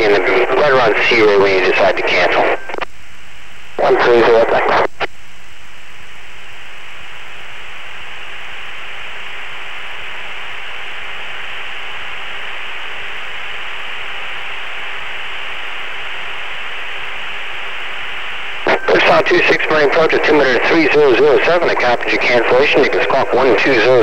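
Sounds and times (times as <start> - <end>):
radio intercom hiss: 0.0 - 2.9, 3.7 - 5.1, 8.5 - 24.0
faint steady hum: 0.0 - 24.0.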